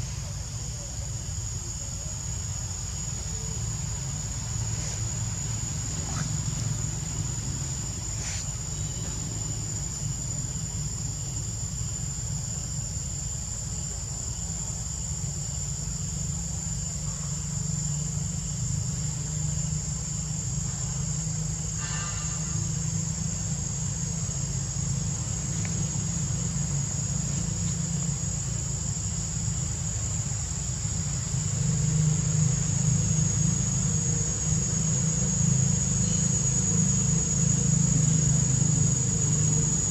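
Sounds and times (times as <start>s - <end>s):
high-pitched insect drone: 0.0s - 39.9s
low steady rumble: 2.3s - 39.9s.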